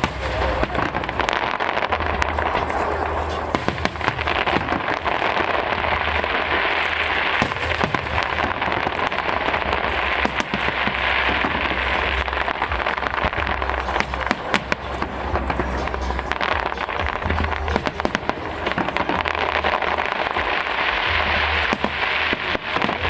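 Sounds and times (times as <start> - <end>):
fireworks crackling: 0.0 - 23.0
sharp fireworks pops: 0.0 - 23.0.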